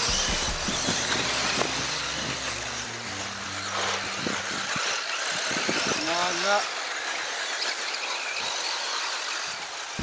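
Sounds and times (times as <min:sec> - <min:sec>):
rc cars tyres and motors hissing: 0:00.0 - 0:10.0.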